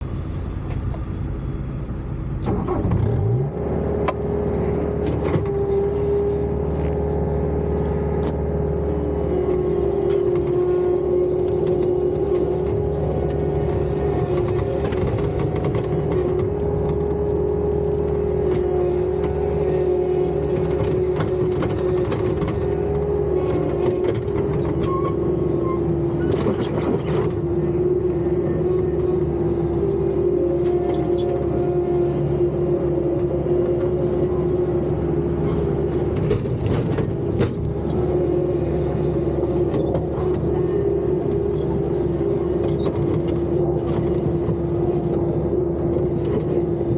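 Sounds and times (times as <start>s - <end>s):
loader diesel engine under load: 0.0s - 46.9s.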